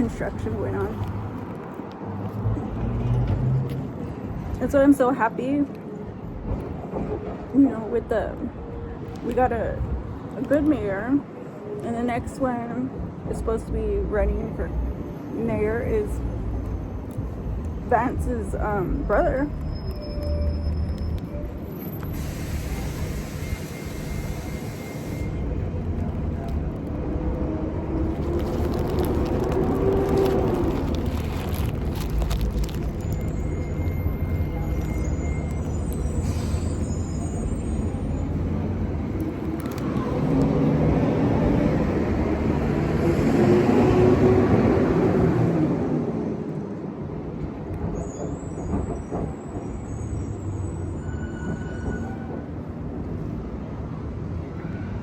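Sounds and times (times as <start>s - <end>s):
vehicle rumble: 0.0s - 45.0s.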